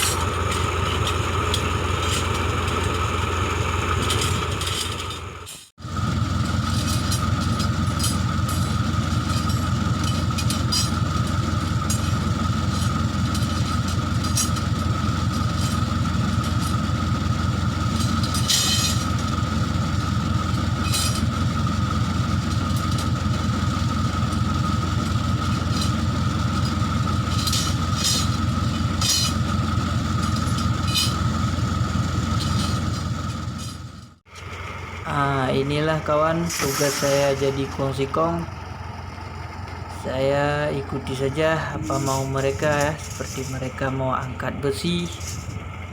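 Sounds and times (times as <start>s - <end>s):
diesel engine running: 0.0s - 45.9s
steady whine: 0.0s - 45.9s.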